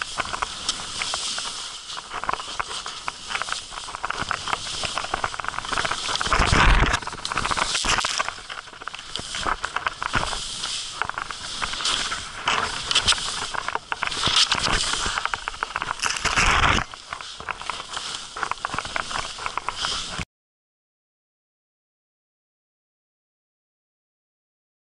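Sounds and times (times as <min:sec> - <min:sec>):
skis scraping through snow: 0:00.0 - 0:20.2
wind noise on microphone: 0:00.0 - 0:20.2.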